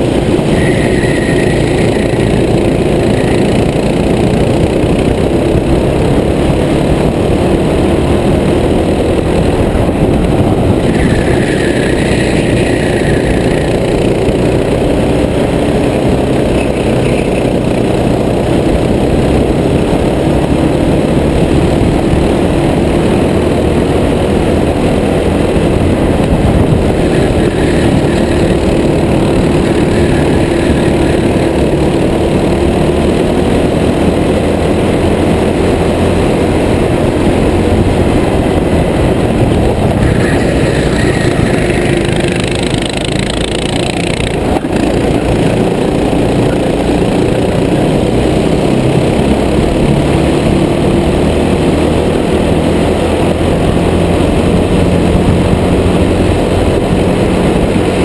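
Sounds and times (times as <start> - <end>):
higher rougher engine note: 0.0 - 58.0
kart engine running hard: 0.0 - 58.0.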